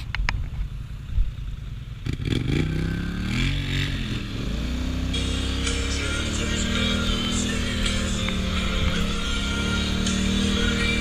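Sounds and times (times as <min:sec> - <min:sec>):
atv engine idling and revving: 0:00.0 - 0:11.0.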